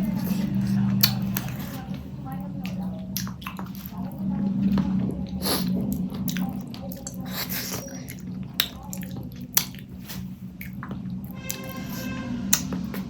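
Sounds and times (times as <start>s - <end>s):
low hum: 0.0s - 13.0s
wet chewing and lip smacks: 0.0s - 13.0s.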